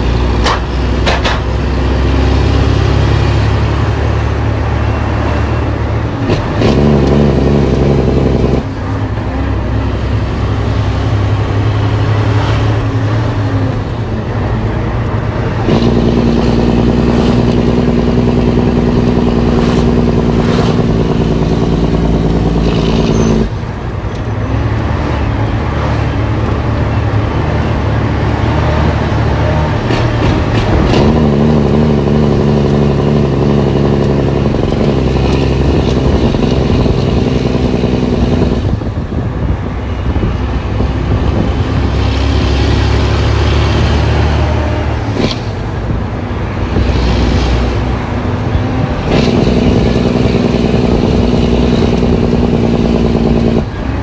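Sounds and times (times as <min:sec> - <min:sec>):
truck diesel engine shifting gears: 0:00.0 - 0:54.0.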